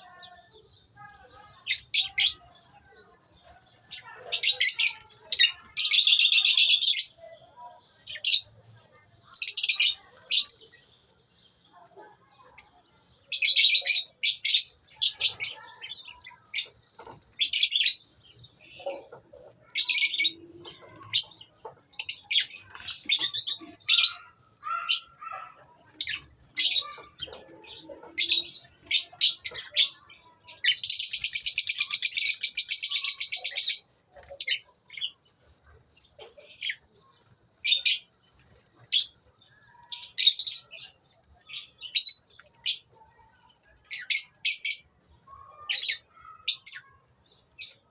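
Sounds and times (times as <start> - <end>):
lovebirds chirping: 0.0 - 47.9.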